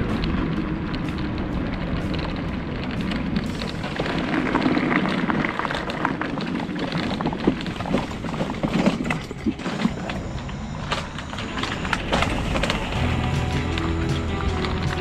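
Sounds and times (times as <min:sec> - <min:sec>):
mobility scooter rolling rumble: 0:00.0 - 0:15.0.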